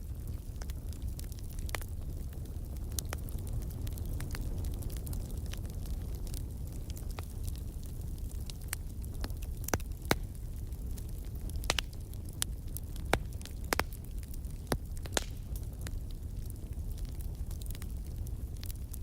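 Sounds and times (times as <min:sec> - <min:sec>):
low rumble of flames: 0:00.0 - 0:19.0
wood fire popping and snapping: 0:00.0 - 0:19.0.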